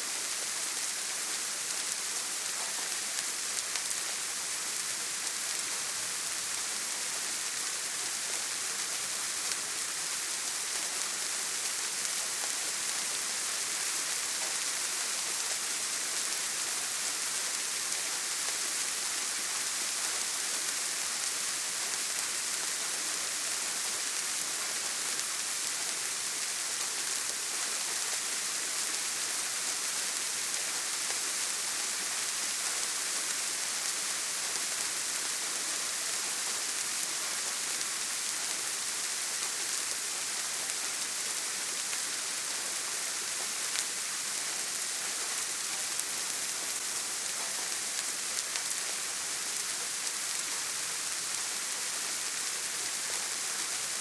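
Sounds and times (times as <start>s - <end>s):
rain on a tin roof: 0.0s - 54.0s.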